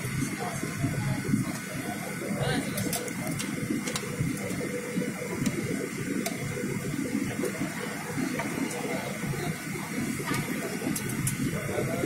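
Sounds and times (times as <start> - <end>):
faint constant hum: 0.0 - 12.0
jet engine cabin noise: 0.0 - 12.0.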